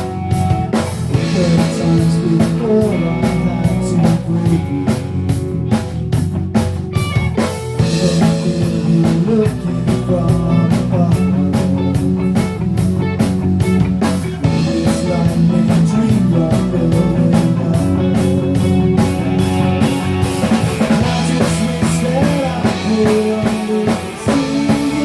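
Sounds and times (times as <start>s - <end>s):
drum kit beat: 0.0s - 25.0s
guitar and bass chords: 0.0s - 25.0s.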